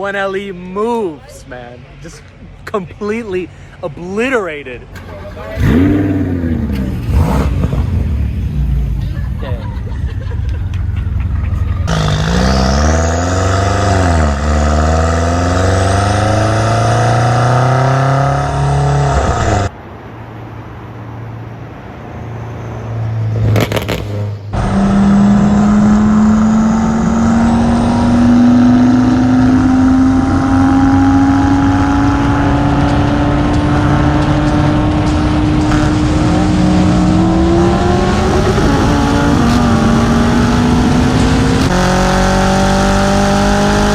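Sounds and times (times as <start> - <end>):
car engines accelerating hard: 4.8 - 43.9.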